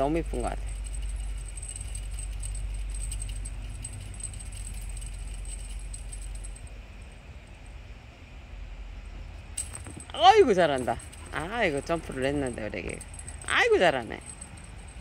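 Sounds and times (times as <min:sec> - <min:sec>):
beads jingling and rattling: 0:00.0 - 0:07.2, 0:09.5 - 0:15.0.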